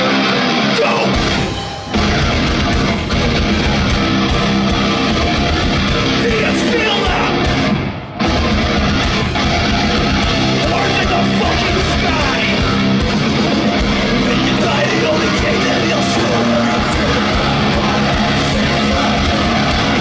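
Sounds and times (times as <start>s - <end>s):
metalcore band playing live: 0.0s - 20.0s.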